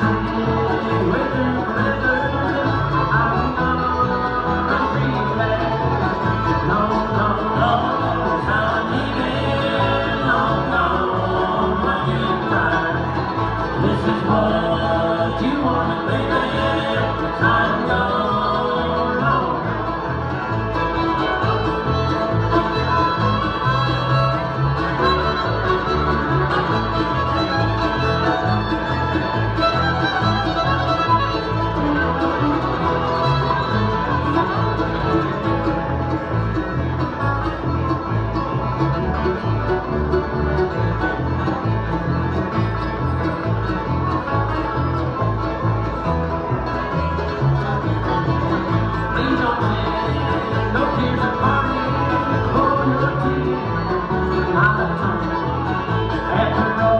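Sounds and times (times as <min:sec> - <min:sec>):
bluegrass band playing: 0:00.0 - 0:56.9.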